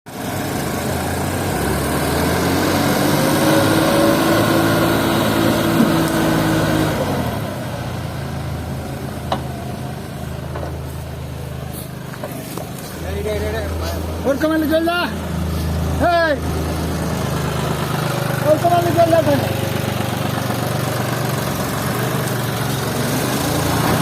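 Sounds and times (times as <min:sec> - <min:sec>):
diesel engine running: 0:00.1 - 0:24.0.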